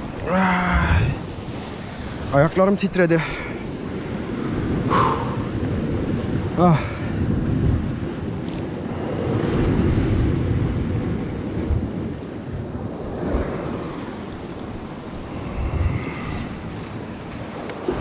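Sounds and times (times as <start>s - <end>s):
sea waves on rocky shore: 0.0s - 18.0s
wind gusting on microphone: 0.0s - 18.0s.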